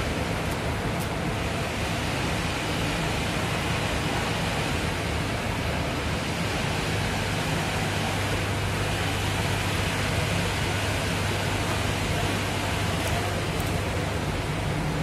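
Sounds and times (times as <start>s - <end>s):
fan running: 0.0s - 15.0s.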